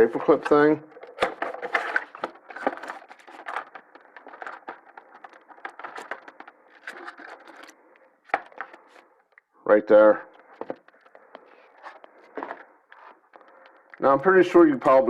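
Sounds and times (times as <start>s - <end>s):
cardboard packaging rustling: 0.0s - 9.3s, 10.0s - 13.9s
small clicks and scrapes: 0.2s - 9.4s, 10.3s - 14.0s.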